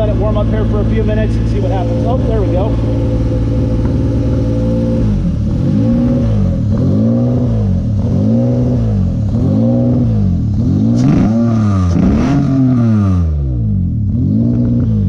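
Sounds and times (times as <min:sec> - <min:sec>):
car engine surging idle: 0:00.0 - 0:14.8.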